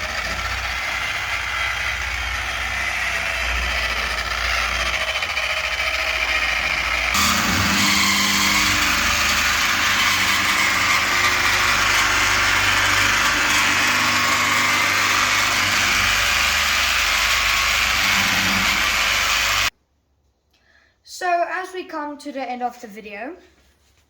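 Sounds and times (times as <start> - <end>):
polishing machine whirring: 0.0 - 19.7.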